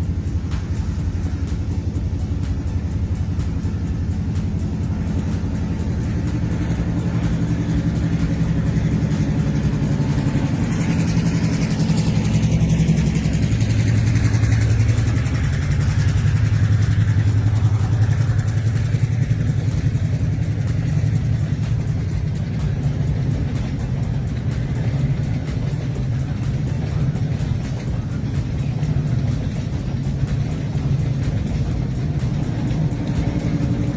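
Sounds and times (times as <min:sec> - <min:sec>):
large engine throbbing: 0:00.0 - 0:33.9.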